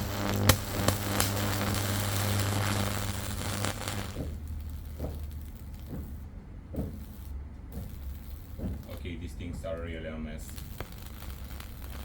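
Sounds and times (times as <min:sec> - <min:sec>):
electric arc crackling and sizzling: 0:00.0 - 0:12.0
sharp electric snaps: 0:00.0 - 0:12.0.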